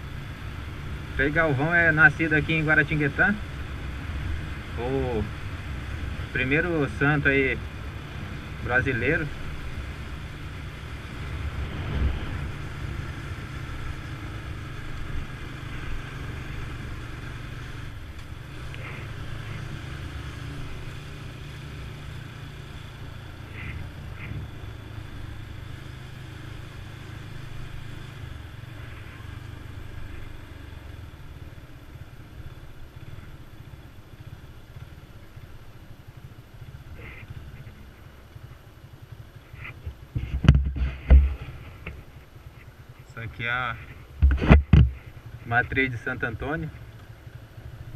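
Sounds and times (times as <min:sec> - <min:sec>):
motorcycle engine rumble: 0:00.0 - 0:47.9.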